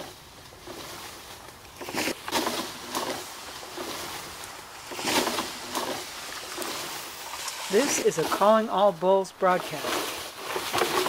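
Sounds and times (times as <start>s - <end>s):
antlers rustling through branches: 0.0s - 11.0s.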